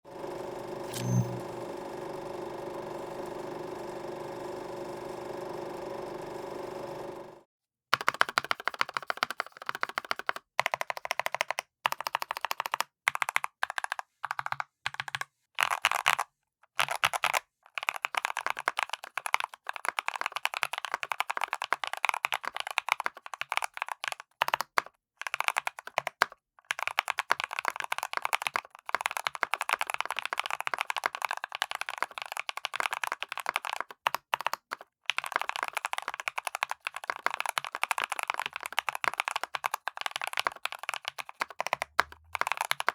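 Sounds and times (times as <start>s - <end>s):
mechanical keyboard typing: 0.8s - 2.0s, 8.0s - 42.9s.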